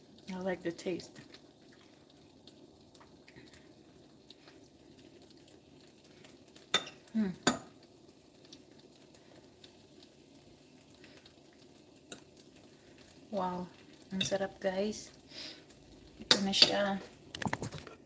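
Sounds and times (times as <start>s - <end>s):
faint steady hum: 0.0s - 17.8s.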